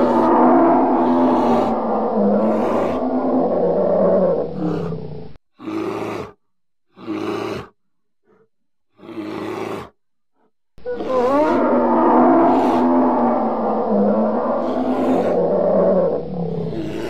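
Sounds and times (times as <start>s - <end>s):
deep animal roar: 0.0s - 17.0s.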